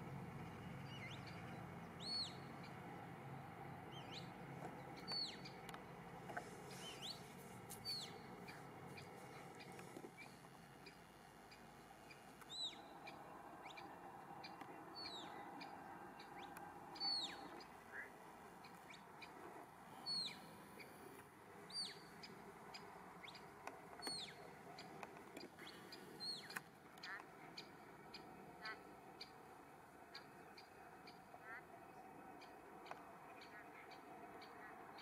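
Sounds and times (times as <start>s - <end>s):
faint outdoor background: 0.0s - 35.0s.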